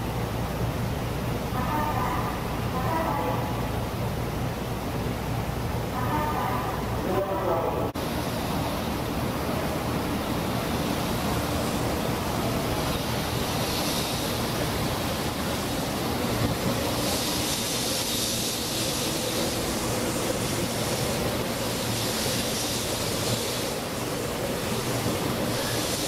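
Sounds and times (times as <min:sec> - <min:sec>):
train moving slowly: 0:00.0 - 0:26.0.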